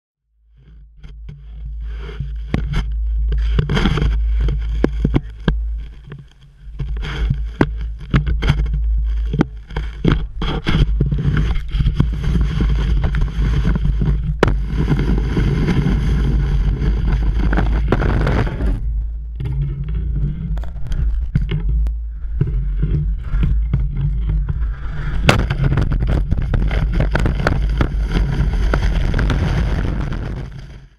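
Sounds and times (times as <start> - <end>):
skis scraping over snow: 1.7 - 18.9, 22.4 - 30.9
wind buffeting microphone: 2.7 - 30.7.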